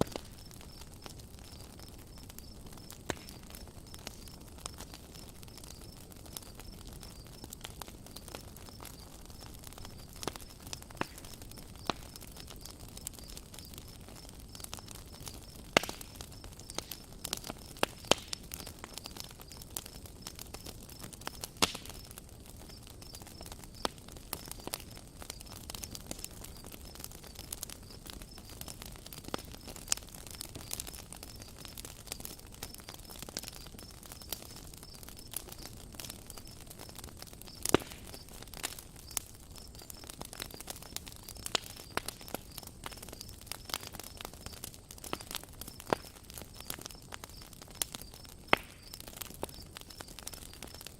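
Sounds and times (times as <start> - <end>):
campfire crackling and popping: 0.0 - 50.9.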